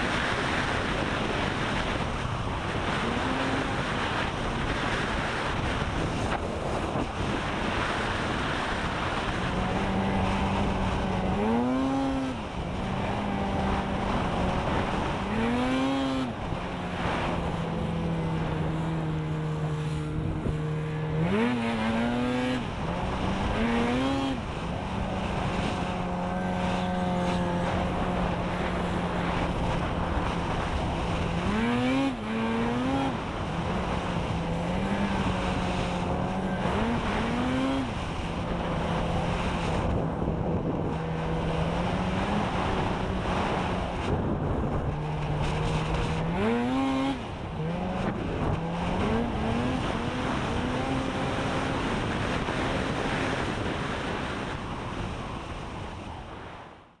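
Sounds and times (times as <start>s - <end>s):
snowmobile engine with throttle surges: 0.0s - 57.0s.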